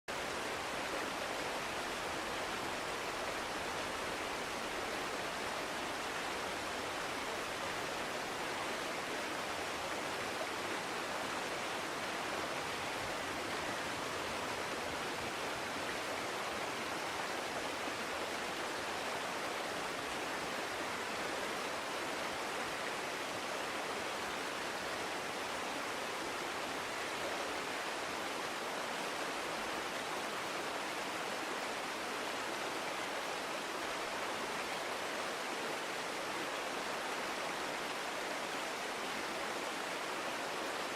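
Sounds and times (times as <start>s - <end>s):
brook water rushing: 0.1s - 40.9s.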